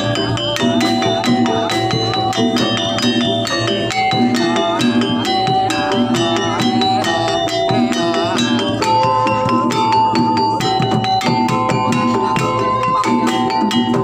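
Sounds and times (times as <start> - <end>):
fast drums and percussion: 0.0 - 14.0
metal percussion melody: 0.0 - 14.0.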